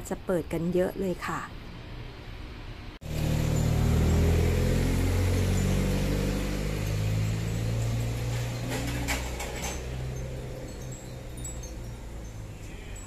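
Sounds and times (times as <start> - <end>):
engine humming: 1.7 - 13.0.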